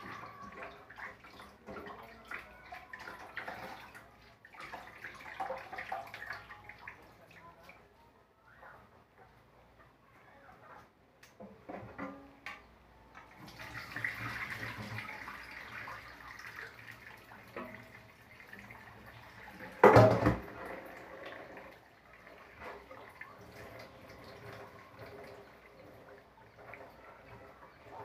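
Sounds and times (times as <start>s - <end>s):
dripping: 0.0s - 7.8s, 13.2s - 28.0s
liquid splashing into sink: 0.0s - 7.8s, 13.2s - 28.0s.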